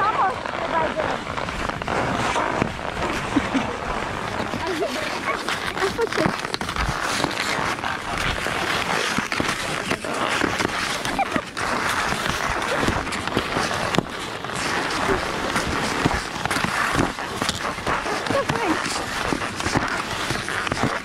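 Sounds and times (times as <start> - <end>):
skis scraping over snow: 0.0 - 21.0.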